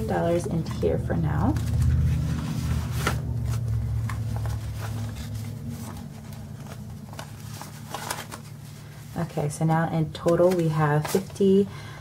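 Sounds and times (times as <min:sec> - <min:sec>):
paper banknotes rustling: 0:00.0 - 0:11.6
low steady hum: 0:00.0 - 0:12.0.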